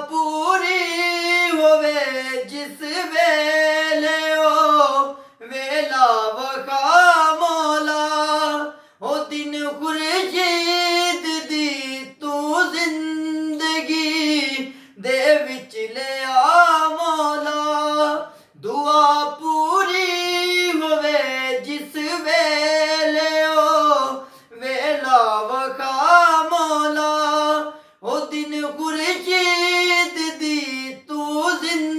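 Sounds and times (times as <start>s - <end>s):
man singing unaccompanied: 0.0s - 31.9s.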